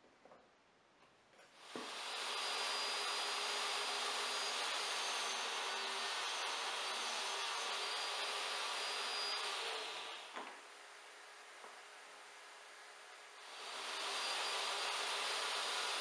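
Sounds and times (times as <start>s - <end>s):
table saw whine: 1.6s - 16.0s.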